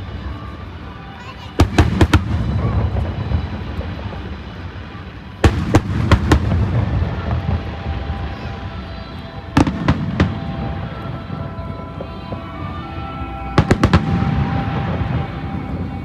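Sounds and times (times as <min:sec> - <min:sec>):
fireworks bangs: 0:01.2 - 0:16.0.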